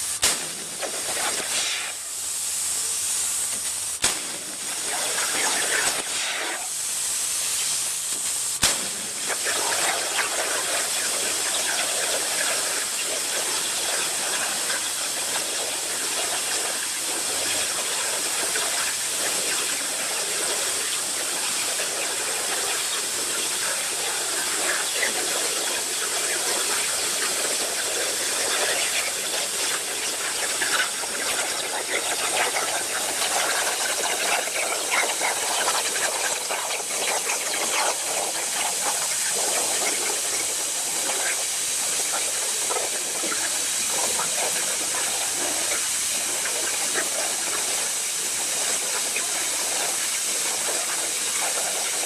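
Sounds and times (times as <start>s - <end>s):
plasma torch hissing: 0.0s - 52.0s.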